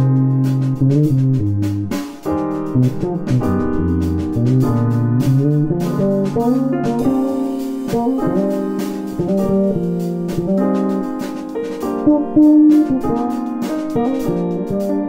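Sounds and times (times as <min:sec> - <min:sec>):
light jazz piano music: 0:00.0 - 0:15.0.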